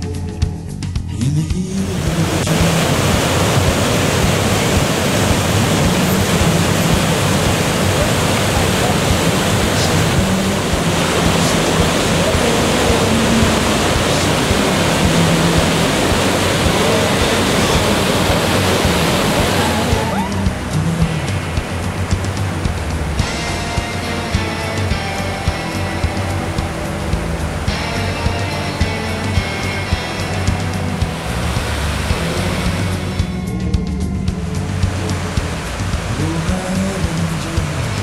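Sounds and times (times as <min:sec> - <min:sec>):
waterfall rushing: 0:01.7 - 0:33.6, 0:34.4 - 0:38.0.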